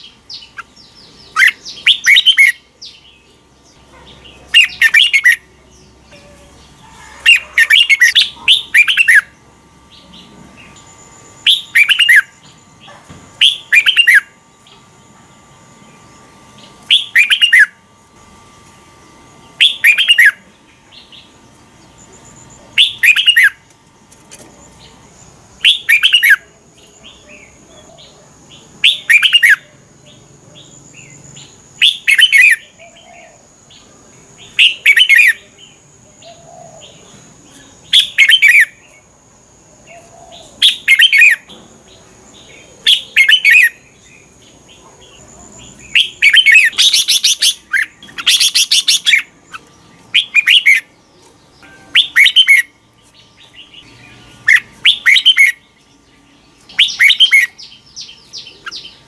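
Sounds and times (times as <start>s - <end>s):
bird singing warbled phrases: 0.0s - 17.9s, 19.2s - 23.7s, 24.6s - 59.0s.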